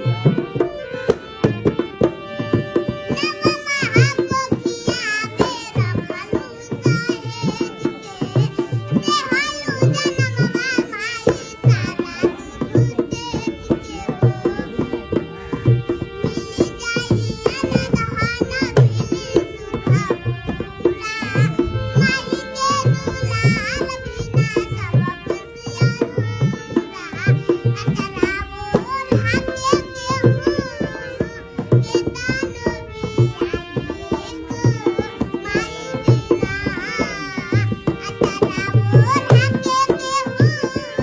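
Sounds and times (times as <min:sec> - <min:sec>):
girl singing folk song: 0:00.0 - 0:41.0
held accompanying notes: 0:00.0 - 0:41.0
hand drum beat: 0:00.2 - 0:41.0.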